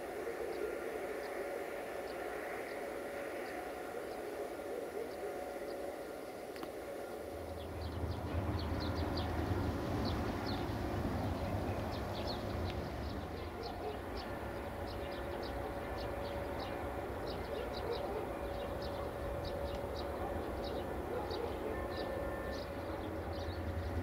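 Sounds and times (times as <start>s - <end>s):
diesel locomotive rumbling: 0.0s - 24.0s
faint steady hum: 0.0s - 24.0s
small birds chirping: 0.2s - 24.0s.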